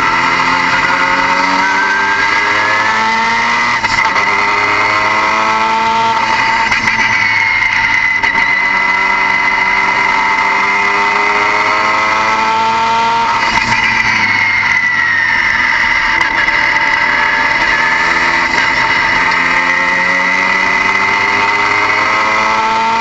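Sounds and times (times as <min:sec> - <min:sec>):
car engine with high whine: 0:00.0 - 0:23.0.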